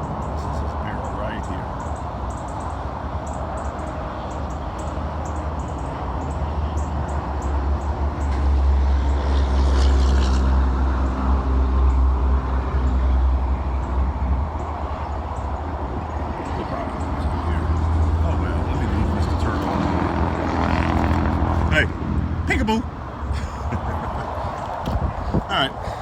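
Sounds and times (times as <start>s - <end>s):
vehicle engine rumble passing: 0.0s - 26.0s.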